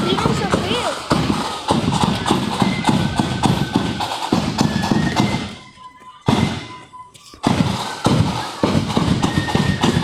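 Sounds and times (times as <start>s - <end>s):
heavy drum strikes: 0.0s - 5.5s, 6.3s - 6.7s, 7.4s - 10.0s
marching band playing: 0.0s - 10.0s.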